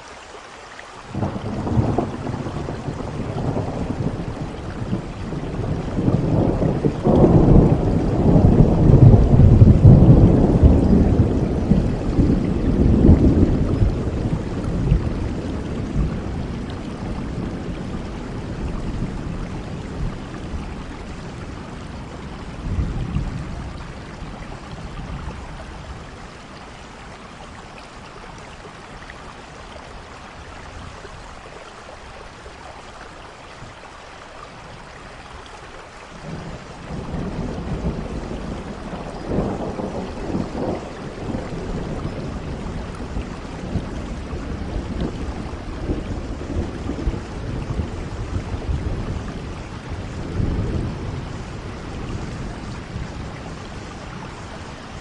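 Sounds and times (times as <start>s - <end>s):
steady rain: 0.0s - 55.0s
low rolling thunder: 1.1s - 31.6s, 36.1s - 55.0s.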